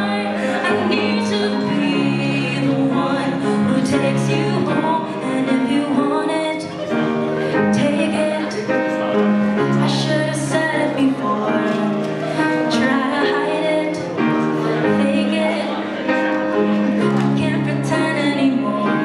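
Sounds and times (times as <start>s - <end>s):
woman singing into microphone: 0.0s - 16.2s, 16.9s - 19.0s
grand piano: 0.0s - 19.0s.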